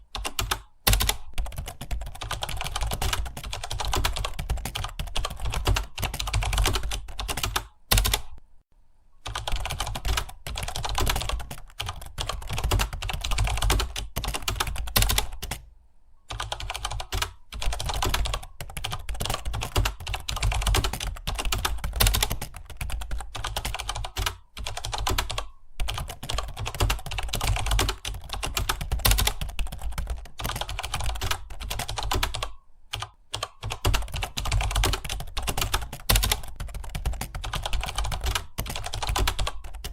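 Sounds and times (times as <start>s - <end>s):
fast keyboard typing: 0.0s - 8.4s, 9.2s - 15.7s, 16.3s - 39.9s.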